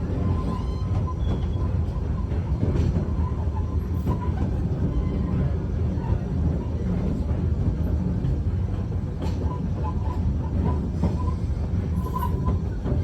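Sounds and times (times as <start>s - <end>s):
train car rumbling on rails: 0.0s - 13.0s.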